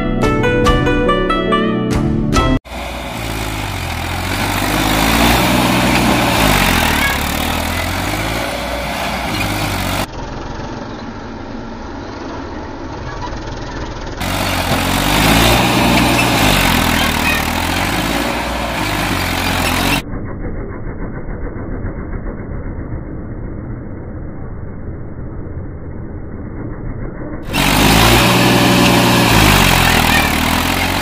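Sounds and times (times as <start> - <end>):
tractor diesel engine: 2.4 - 24.5, 26.1 - 31.0.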